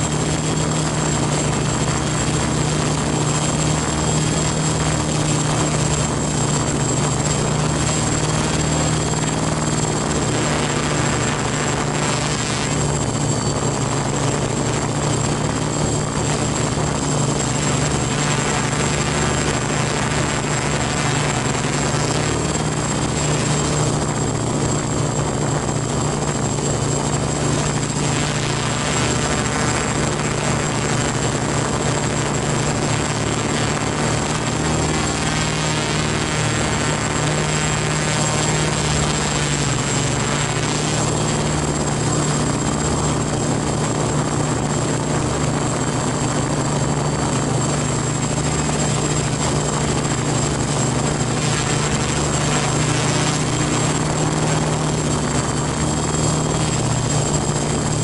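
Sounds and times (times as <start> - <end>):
drone propeller hum: 0.0 - 58.0
high motor whine: 0.0 - 58.0.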